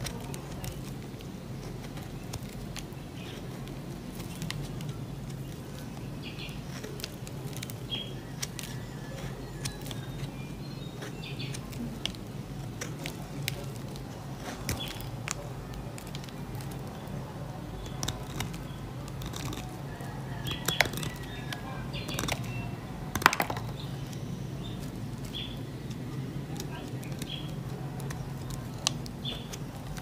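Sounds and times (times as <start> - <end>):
soap being shaved scratching: 0.0 - 30.0.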